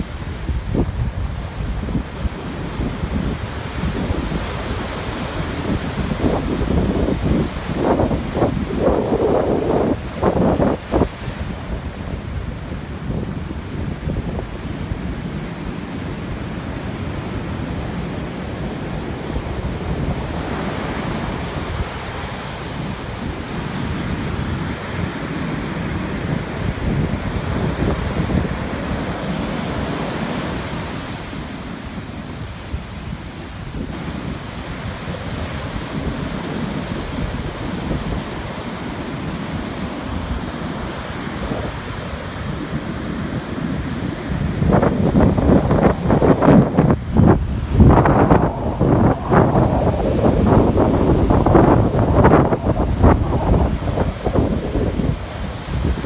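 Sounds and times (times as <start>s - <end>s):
surf breaking on beach: 0.0s - 56.0s
wind buffeting microphone: 0.0s - 56.0s.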